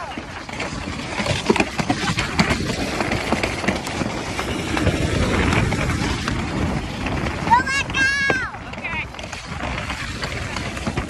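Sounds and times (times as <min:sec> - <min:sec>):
sled rolling rumble and rattle: 0:00.0 - 0:11.0.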